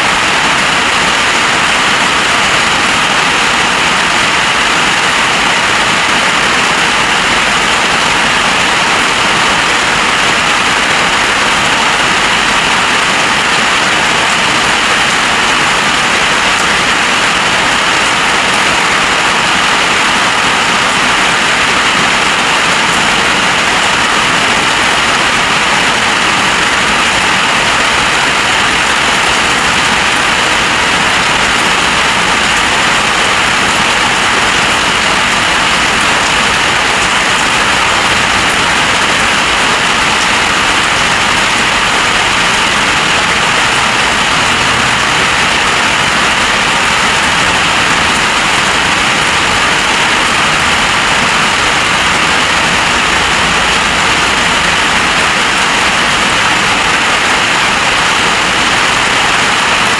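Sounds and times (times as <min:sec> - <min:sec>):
heavy storm rain pouring: 0:00.0 - 0:59.9.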